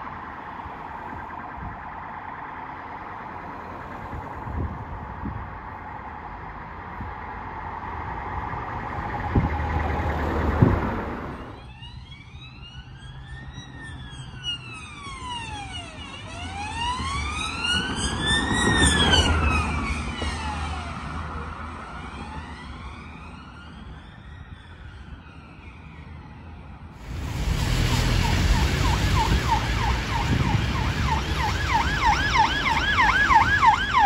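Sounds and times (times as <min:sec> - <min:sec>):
police siren wailing: 0:00.0 - 0:34.0
road traffic: 0:00.0 - 0:34.0.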